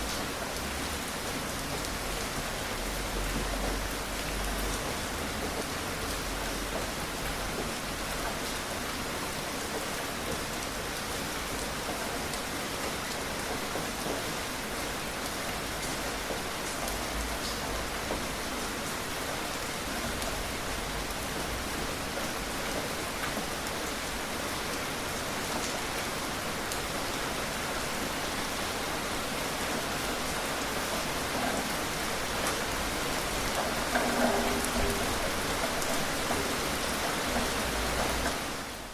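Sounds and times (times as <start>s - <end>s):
dense rain pattering: 0.0s - 38.9s.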